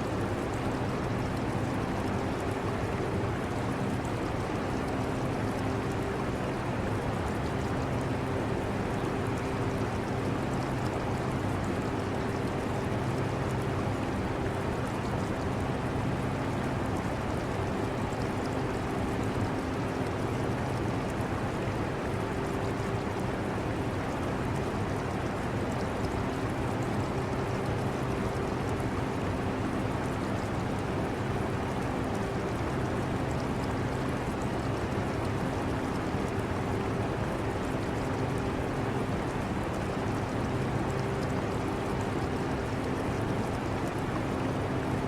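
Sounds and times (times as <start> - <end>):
aquarium water trickling: 0.2 - 45.0.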